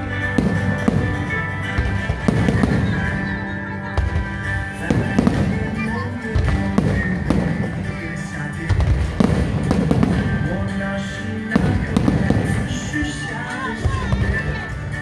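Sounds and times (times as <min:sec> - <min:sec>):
loud music: 0:00.0 - 0:15.0.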